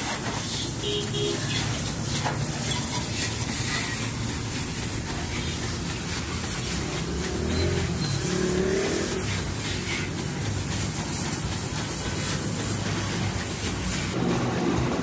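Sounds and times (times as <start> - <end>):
water jet spraying: 0.0 - 15.0.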